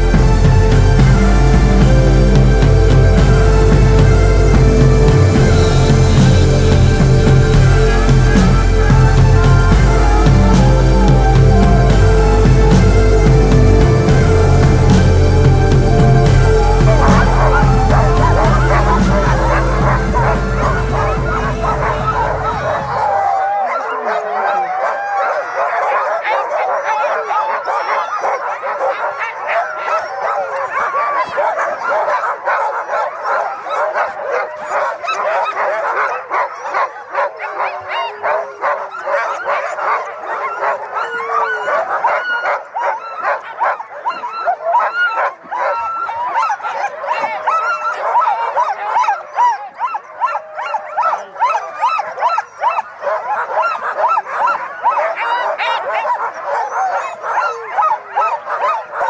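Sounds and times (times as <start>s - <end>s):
sled dogs barking and howling: 0.0s - 59.0s.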